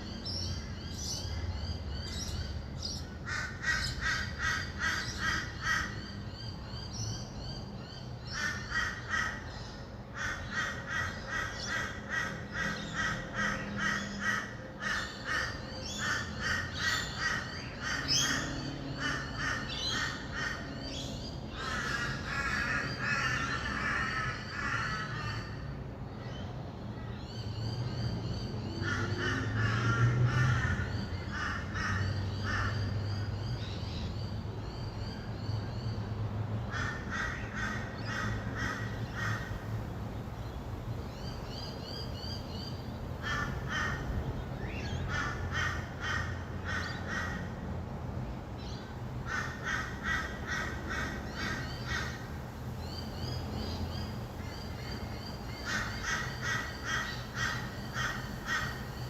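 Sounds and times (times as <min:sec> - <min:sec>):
lorikeets screeching: 0:00.0 - 0:36.0, 0:36.7 - 0:39.6, 0:41.1 - 0:47.5, 0:48.6 - 0:59.0
distant traffic hum: 0:00.0 - 0:59.0.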